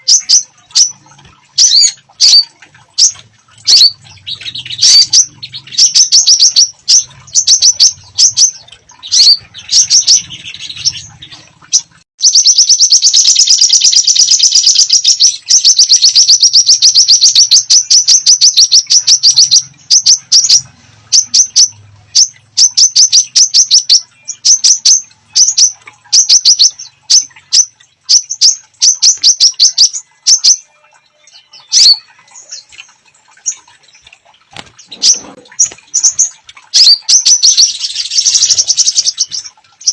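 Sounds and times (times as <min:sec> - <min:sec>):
songbird chip notes and trill: 0:00.0 - 0:39.9.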